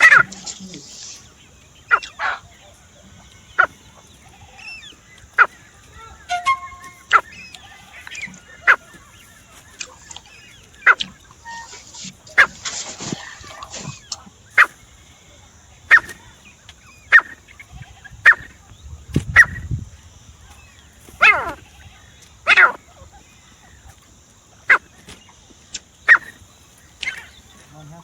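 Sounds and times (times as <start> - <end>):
francolin calling: 0.0 - 28.0.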